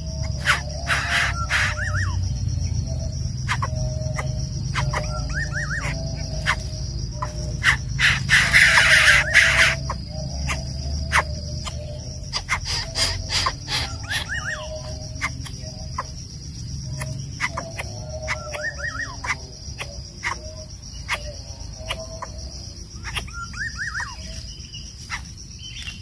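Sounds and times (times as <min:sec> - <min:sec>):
bird chirps: 0:00.0 - 0:26.0
insects chirring: 0:00.0 - 0:26.0.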